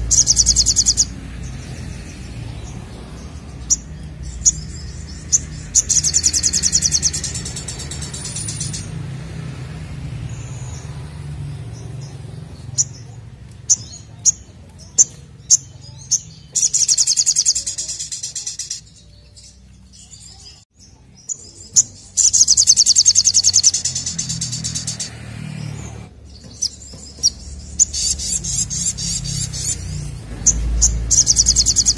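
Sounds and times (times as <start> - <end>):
bird trill: 0.0 - 9.1, 10.2 - 31.9
bird chips: 0.0 - 9.2, 10.1 - 31.9.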